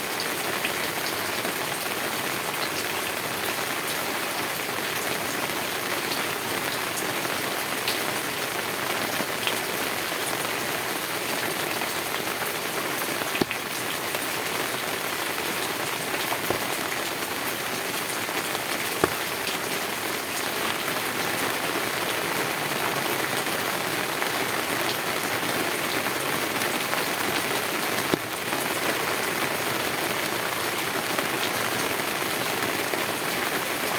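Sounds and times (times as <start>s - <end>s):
heavy rain on a tin roof: 0.0s - 33.9s.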